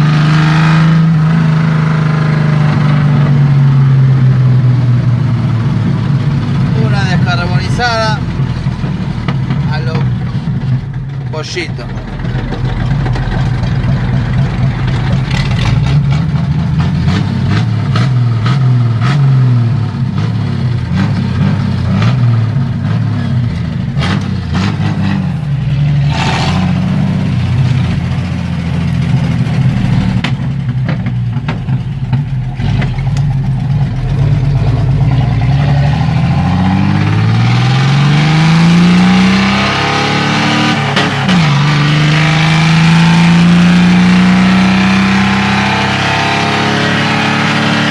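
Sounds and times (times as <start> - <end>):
car engine through open exhaust: 0.0 - 47.9.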